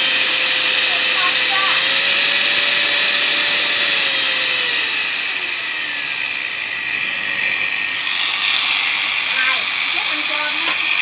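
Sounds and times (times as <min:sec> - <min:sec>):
angle grinder whining: 0:00.0 - 0:11.0.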